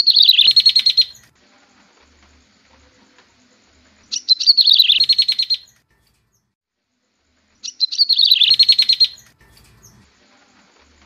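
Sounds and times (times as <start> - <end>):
recorded bird song with trill: 0.0 - 6.6, 7.2 - 11.0.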